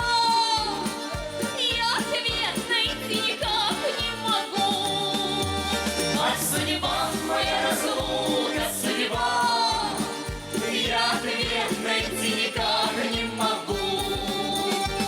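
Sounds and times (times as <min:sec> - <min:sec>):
steady bass beat: 0:00.0 - 0:04.3, 0:05.3 - 0:15.0
accordion: 0:00.0 - 0:15.0
people singing: 0:00.0 - 0:15.0.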